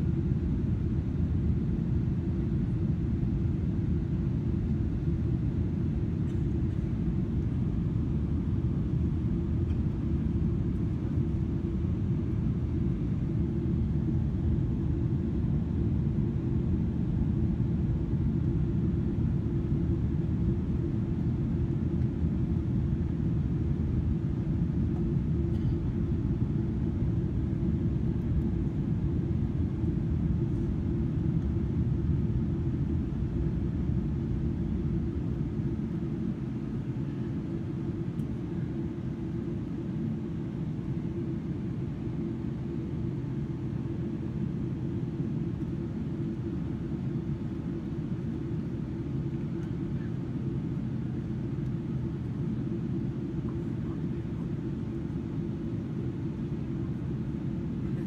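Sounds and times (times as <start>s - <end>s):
airplane cabin rumble: 0.0s - 58.0s.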